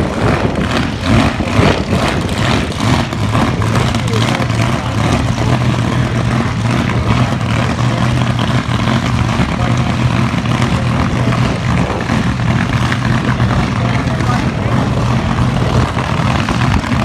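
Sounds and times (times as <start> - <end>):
car engines idling: 0.0 - 17.0.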